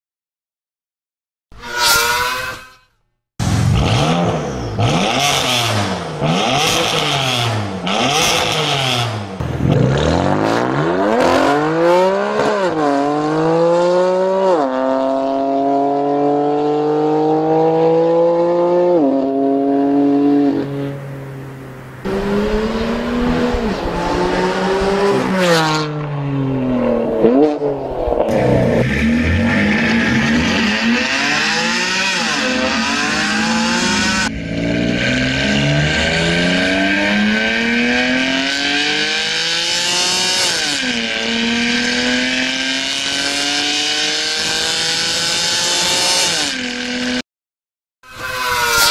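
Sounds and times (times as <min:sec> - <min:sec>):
car engine accelerating hard: 0:03.4 - 0:47.2.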